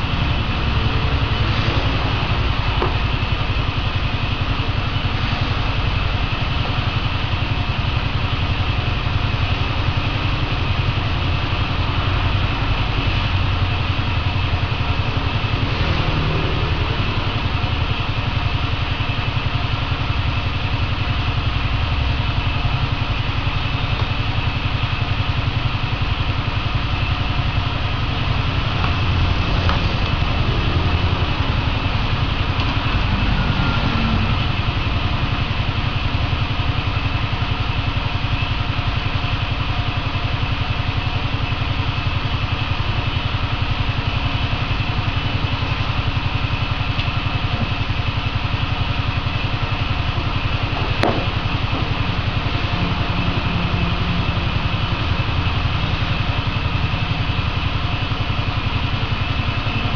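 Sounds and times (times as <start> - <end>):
mechanical drone with hiss: 0.0 - 59.9.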